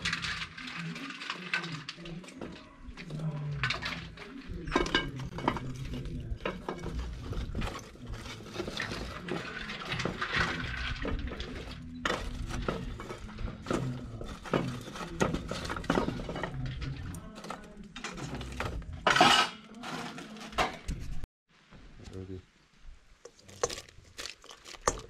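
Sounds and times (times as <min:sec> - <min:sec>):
pot clattering: 0:00.0 - 0:20.9, 0:23.4 - 0:25.0
cookware and utensils clinking: 0:00.0 - 0:21.1, 0:23.3 - 0:25.0.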